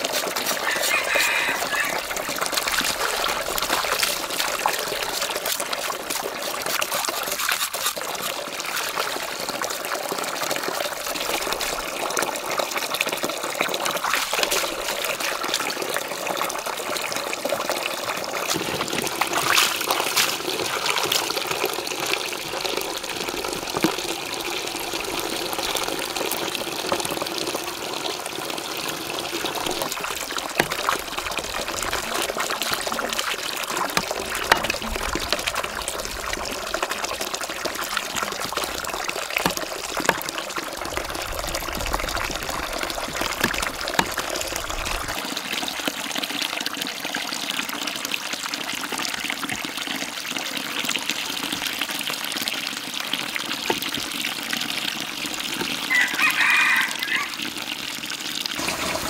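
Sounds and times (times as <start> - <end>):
water pouring and splashing: 0.0 - 59.0.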